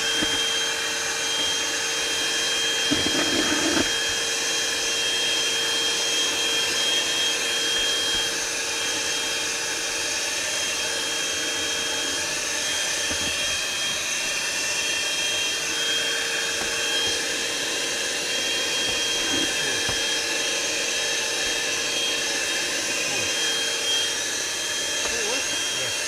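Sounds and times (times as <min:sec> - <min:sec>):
hand-held vacuum cleaner running: 0:00.0 - 0:26.0.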